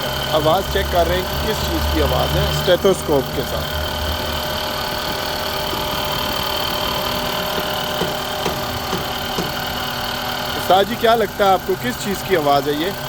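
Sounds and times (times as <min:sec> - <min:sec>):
car engine idling: 0:00.0 - 0:13.0
odd noise from engine: 0:00.0 - 0:13.0.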